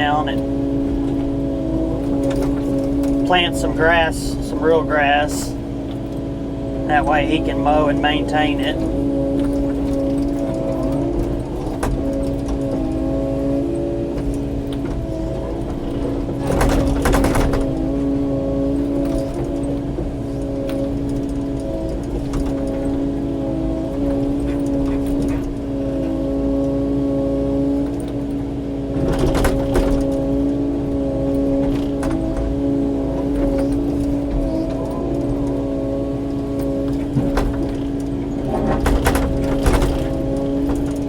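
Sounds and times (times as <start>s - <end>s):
excavator diesel engine hum: 0.0s - 41.0s.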